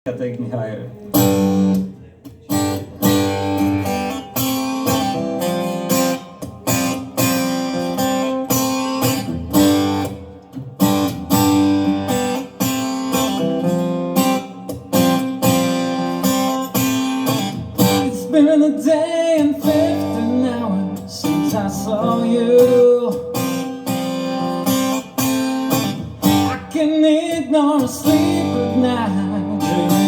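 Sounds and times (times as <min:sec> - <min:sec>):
acoustic guitar strumming: 0:01.0 - 0:30.0.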